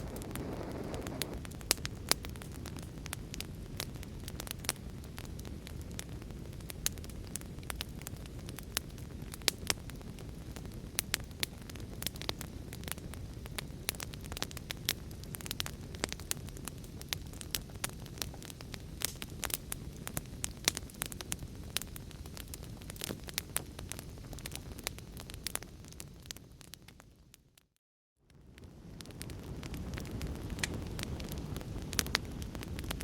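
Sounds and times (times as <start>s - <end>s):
wood fire crackling: 0.0s - 27.7s, 28.3s - 33.0s.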